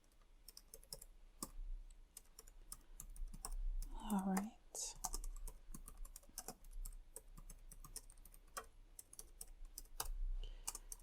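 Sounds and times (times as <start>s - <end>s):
typing on keyboard: 0.0s - 11.0s.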